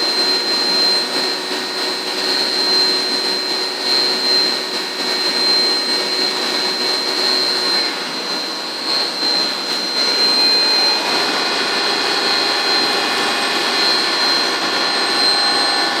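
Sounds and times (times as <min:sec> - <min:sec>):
lathe whirring with high whine: 0:00.0 - 0:16.0.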